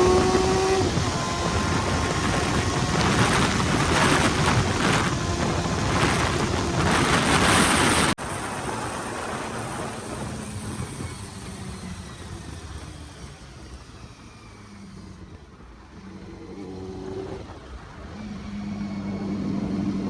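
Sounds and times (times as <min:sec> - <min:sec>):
vehicle running noise: 0:00.0 - 0:20.0
wind rumble on microphone: 0:00.0 - 0:20.0.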